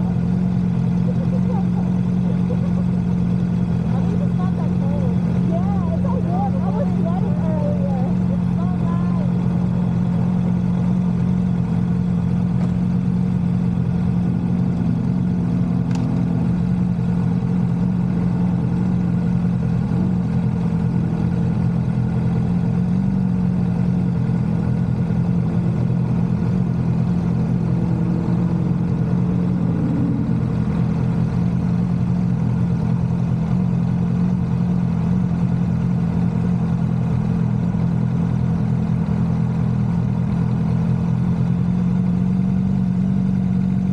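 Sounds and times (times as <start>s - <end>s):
motorcycle engine running steadily: 0.0s - 43.9s.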